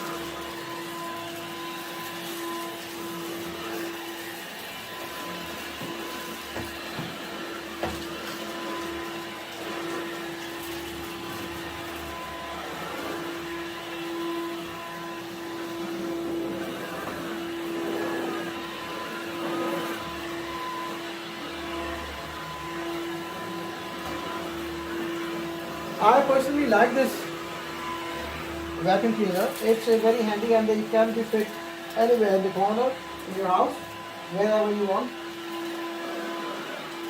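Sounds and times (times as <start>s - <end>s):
stick vacuum running on carpet: 0.0s - 37.0s.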